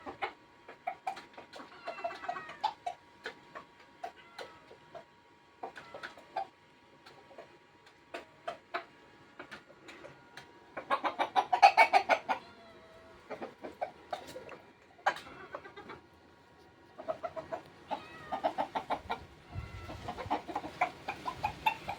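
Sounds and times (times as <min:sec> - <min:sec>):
rooster clucking: 0:00.0 - 0:21.9.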